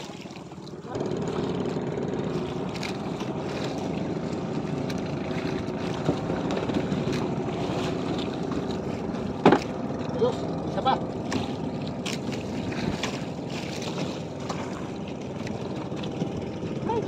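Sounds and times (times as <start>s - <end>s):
short knocks or splashes: 0.0s - 10.5s, 11.1s - 16.6s
boat engine running: 0.0s - 17.0s
sea noise: 0.0s - 17.0s
wind: 0.0s - 17.0s.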